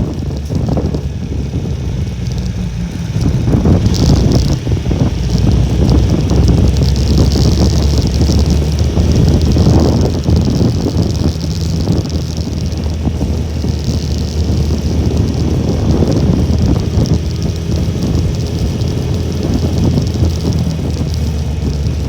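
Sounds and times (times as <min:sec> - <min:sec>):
small motorbike engine running: 0:00.0 - 0:22.0
wind buffeting microphone: 0:00.0 - 0:22.0.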